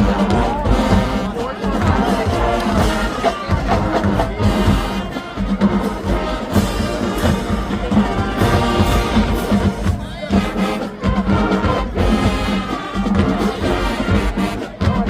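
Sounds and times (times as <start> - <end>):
drumline percussion: 0.0 - 15.0
marching band playing: 0.0 - 15.0.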